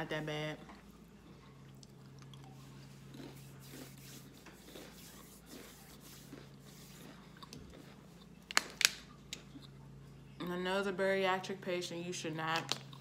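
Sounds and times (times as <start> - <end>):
faint chewing with soft crunches: 0.4 - 10.6, 12.6 - 13.0.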